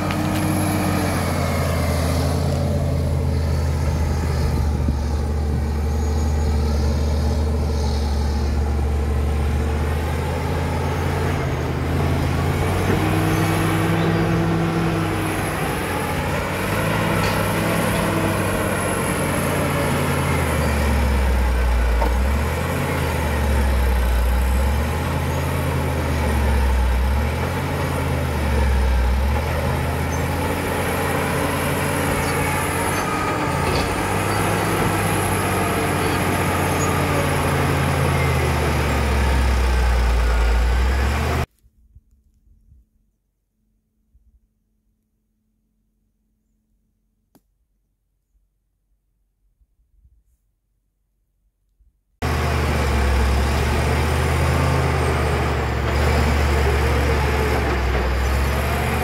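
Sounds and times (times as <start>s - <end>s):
bulldozer diesel engine under load: 0.0s - 41.5s, 52.2s - 59.0s.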